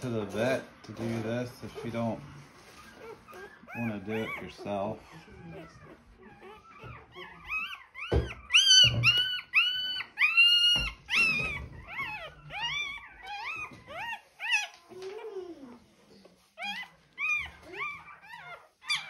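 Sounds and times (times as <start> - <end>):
puppy squealing: 1.4 - 19.0.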